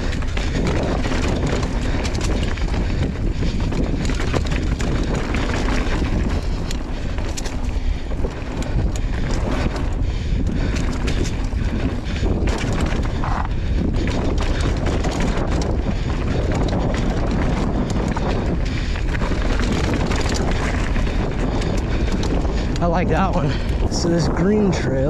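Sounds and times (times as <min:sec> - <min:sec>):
bike clicks and rattles: 0:00.0 - 0:25.0
wind buffeting microphone: 0:00.0 - 0:25.0.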